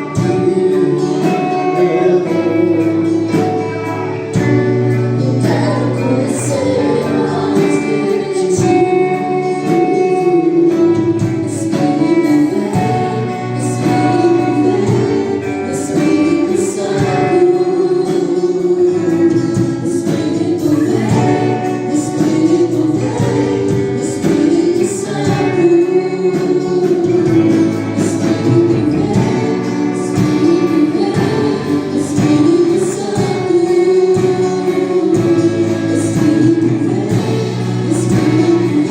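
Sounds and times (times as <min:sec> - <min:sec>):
choir singing: 0:00.0 - 0:38.9
instrumental accompaniment: 0:00.0 - 0:38.9.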